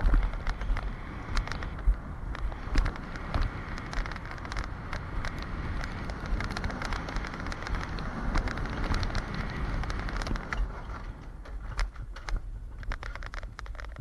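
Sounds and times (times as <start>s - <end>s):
sled clicks and rattles: 0.0s - 14.0s
sled rolling rumble on rails: 0.0s - 14.0s.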